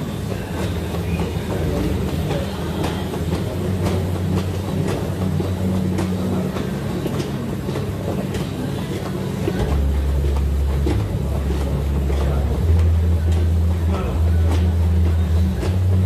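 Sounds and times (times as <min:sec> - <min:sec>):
stair-climber machine humming: 0:00.0 - 0:16.0
clicks and clunks of steps: 0:00.1 - 0:16.0.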